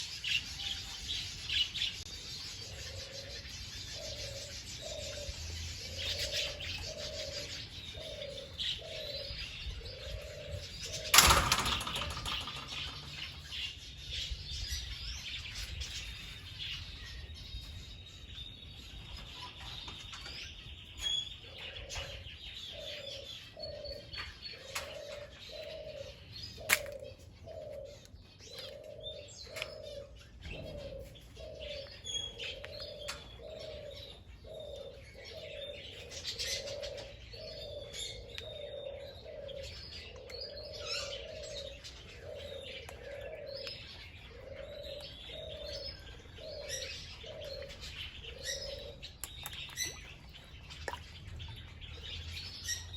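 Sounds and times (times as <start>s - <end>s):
birds chirping and twittering: 0.0s - 52.9s
low cooing bird: 0.0s - 52.9s.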